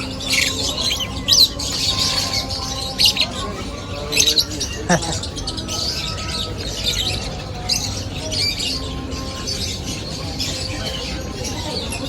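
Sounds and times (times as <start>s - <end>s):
caged birds chirping and squawking: 0.0s - 12.0s.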